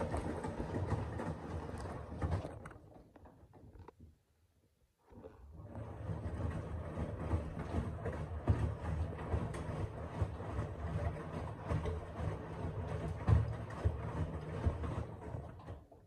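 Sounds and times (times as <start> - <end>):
washing machine running: 0.0 - 3.8, 5.2 - 16.0.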